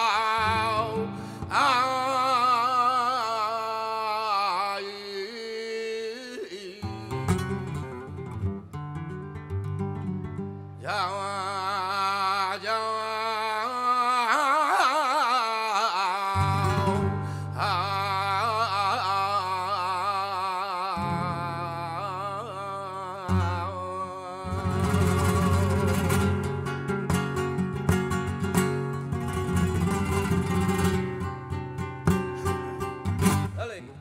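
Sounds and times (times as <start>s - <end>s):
flamenco guitar notes: 0.0s - 3.0s, 6.8s - 13.7s, 16.3s - 34.0s
man singing flamenco: 0.0s - 9.1s, 10.8s - 34.0s.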